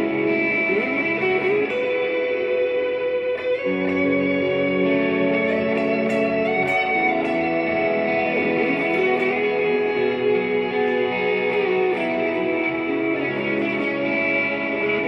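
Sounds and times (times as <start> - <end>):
electric guitar with delay and reverb: 0.0 - 15.0.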